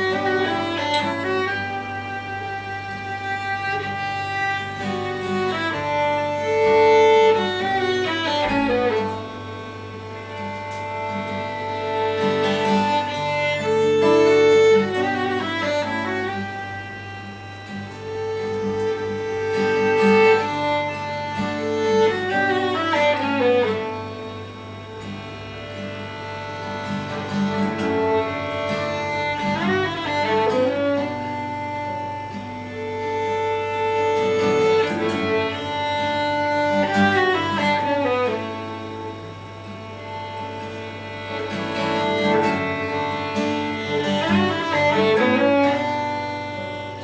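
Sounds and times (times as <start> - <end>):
acoustic guitar: 0.0 - 47.0
violin: 0.0 - 47.0.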